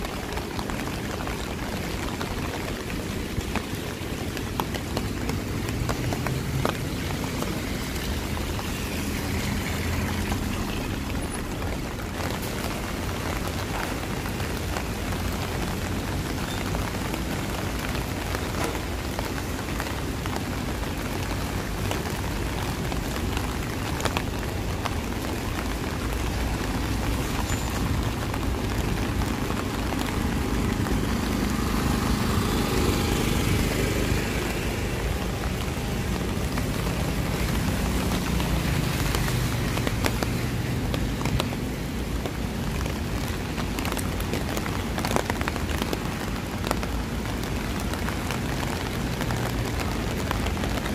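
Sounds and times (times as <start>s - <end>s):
low hum of traffic: 0.0s - 50.9s
rain falling on street: 0.0s - 50.9s.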